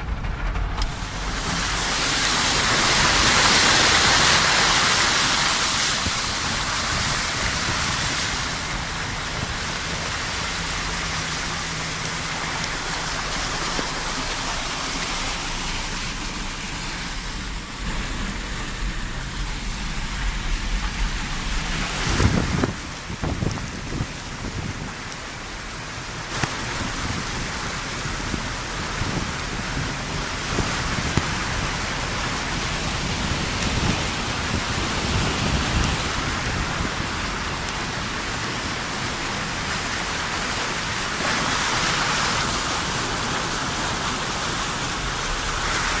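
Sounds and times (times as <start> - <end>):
low rumbles: 0.0 - 46.0
rain falling: 0.0 - 46.0.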